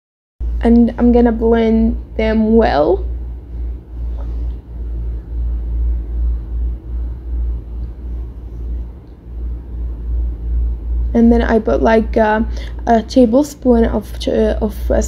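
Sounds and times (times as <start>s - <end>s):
low uneven rumble: 0.4s - 15.0s.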